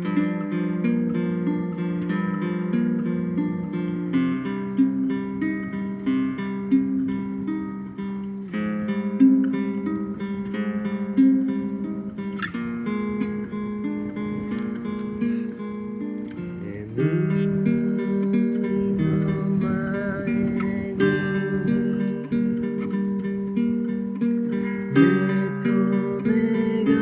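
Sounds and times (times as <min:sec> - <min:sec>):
acoustic guitar plucking: 0:00.0 - 0:27.0.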